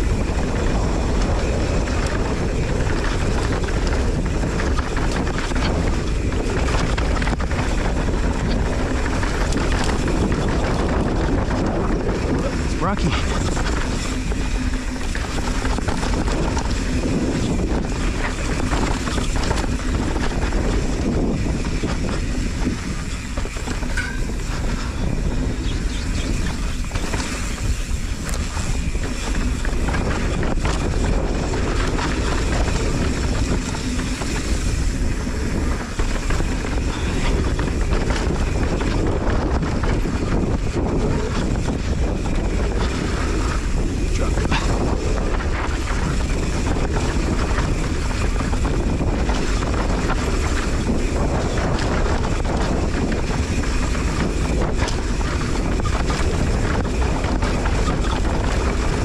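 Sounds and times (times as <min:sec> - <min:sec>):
bike clicks and rattles: 0:00.0 - 0:59.0
tyres rumbling on dirt trail: 0:00.0 - 0:59.0
wind buffeting microphone: 0:00.0 - 0:59.0.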